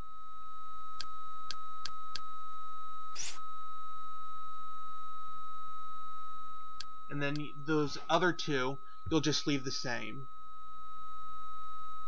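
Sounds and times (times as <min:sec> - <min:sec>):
steady high whine: 0:00.0 - 0:12.0.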